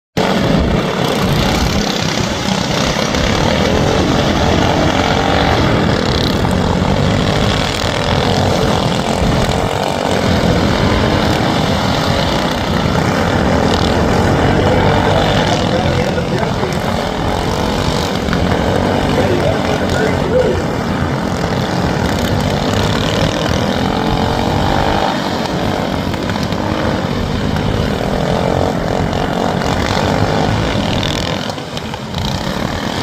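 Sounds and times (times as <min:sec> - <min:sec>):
racing lawnmower engines: 0:00.2 - 0:33.0.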